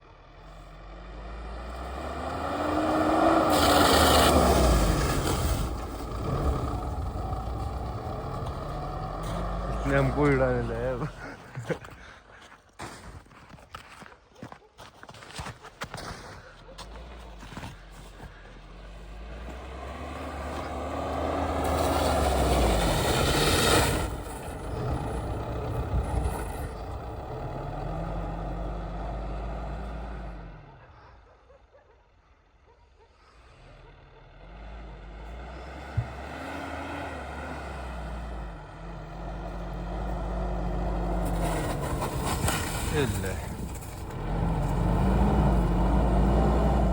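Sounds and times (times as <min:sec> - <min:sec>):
steady engine rumble: 0:00.0 - 0:12.5, 0:16.3 - 0:31.4, 0:33.4 - 0:46.9
vehicle passing by: 0:00.2 - 0:11.3, 0:16.8 - 0:31.1, 0:33.2 - 0:46.9.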